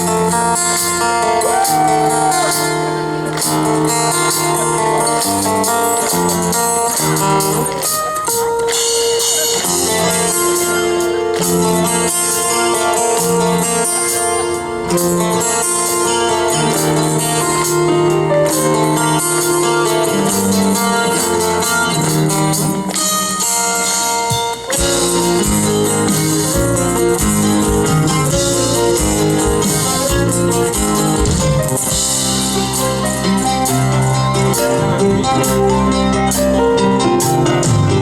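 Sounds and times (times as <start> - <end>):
acoustic band instrumental music: 0.0 - 38.0.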